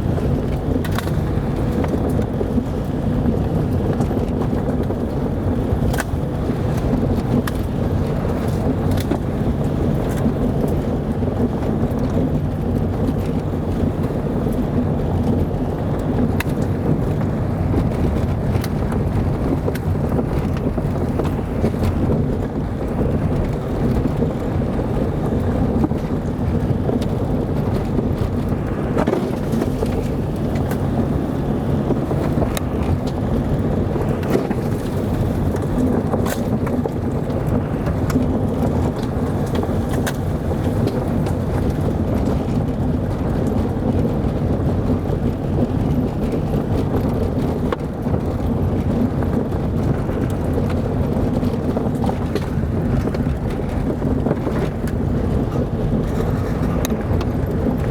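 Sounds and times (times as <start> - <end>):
car engine and road noise: 0.0 - 57.9
wind on microphone: 0.0 - 57.9.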